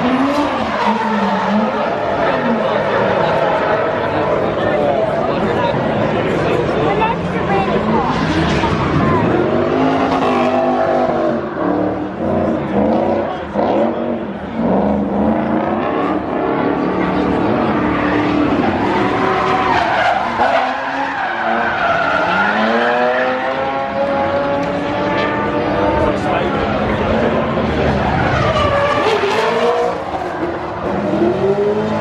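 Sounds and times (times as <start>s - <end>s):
car engines revving: 0.0s - 32.0s
tyres skidding: 0.0s - 32.0s.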